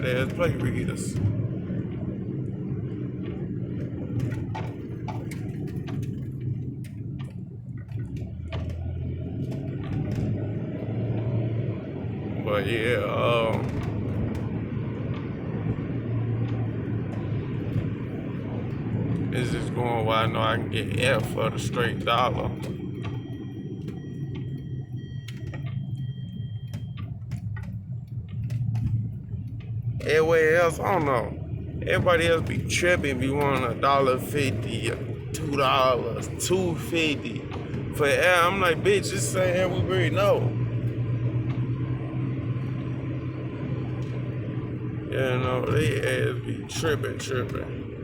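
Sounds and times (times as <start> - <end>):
car cabin low rumble: 0.0 - 48.0.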